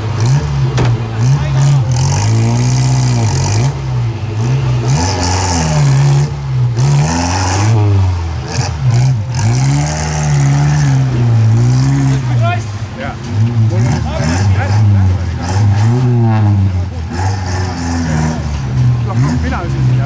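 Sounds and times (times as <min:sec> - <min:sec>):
off-road vehicle engines revving: 0:00.0 - 0:20.0.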